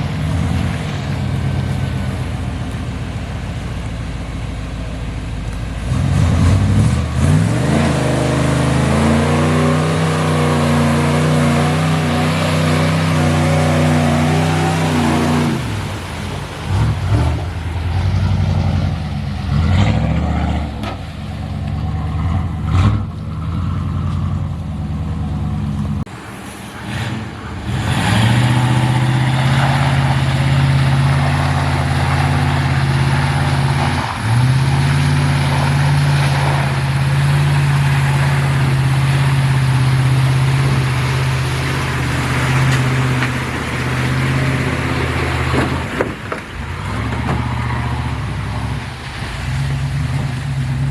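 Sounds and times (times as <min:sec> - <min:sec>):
off-road vehicle engine running hard: 0:00.0 - 0:50.9.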